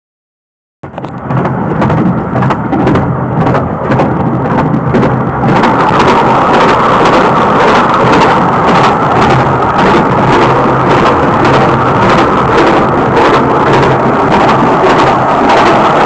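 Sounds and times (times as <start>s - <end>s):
train carriage rumble and clatter: 0.8s - 16.0s
wheels clicking on rails: 0.8s - 16.0s.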